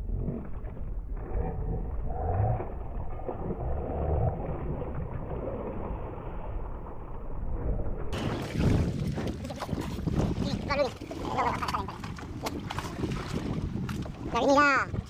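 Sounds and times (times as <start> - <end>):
muffled low boat rumble: 0.0 - 15.0.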